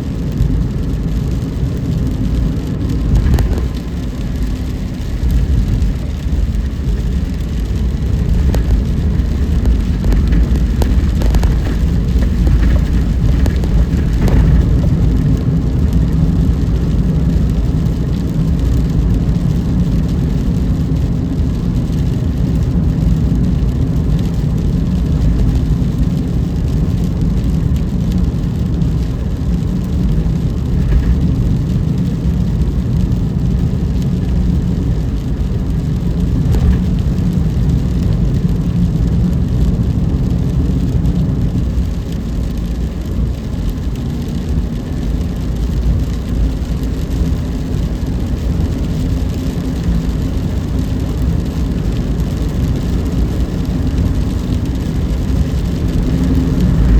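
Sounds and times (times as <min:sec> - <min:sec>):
car engine rumble: 0:00.0 - 0:56.9
tyres on wet road: 0:00.0 - 0:56.9.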